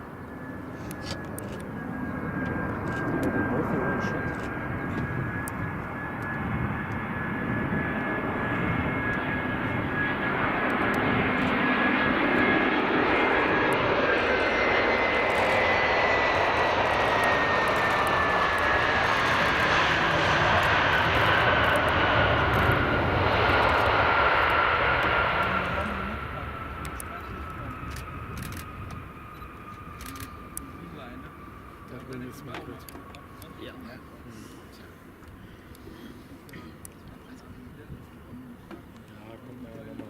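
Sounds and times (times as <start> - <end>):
jet engine roar: 0.0 - 40.0
high jet whine falling in pitch: 0.2 - 33.0.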